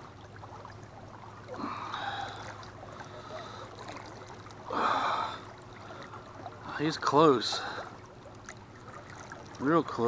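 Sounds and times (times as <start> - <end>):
steady low hum: 0.0 - 10.0
water lapping beside boat: 0.0 - 10.0.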